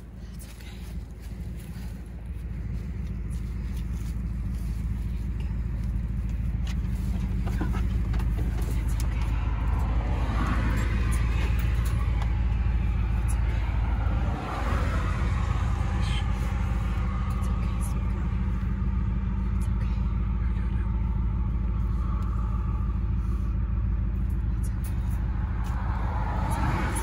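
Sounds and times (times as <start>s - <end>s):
car engine rumble from inside: 0.0s - 27.0s.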